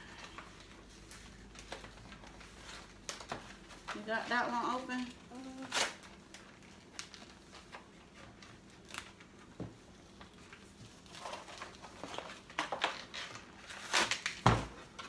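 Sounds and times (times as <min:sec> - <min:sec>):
toy packaging rustling and crinkling: 0:00.0 - 0:15.0.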